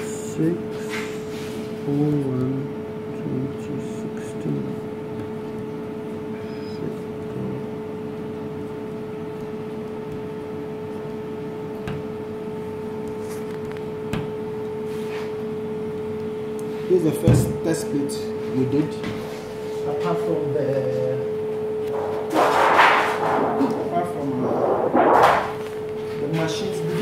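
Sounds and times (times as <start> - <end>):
electrical machine hum: 0.0 - 27.0.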